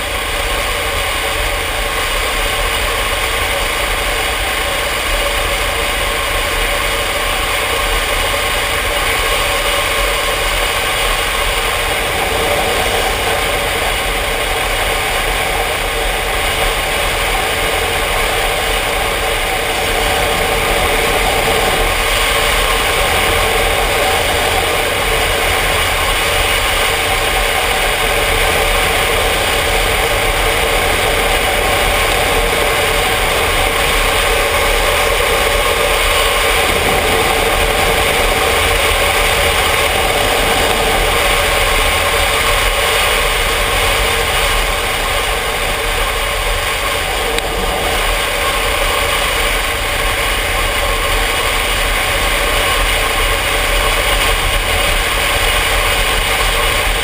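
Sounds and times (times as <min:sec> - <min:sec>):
motorcycle engine running: 0:00.0 - 0:57.0
wind rushing over camera: 0:02.5 - 0:57.0.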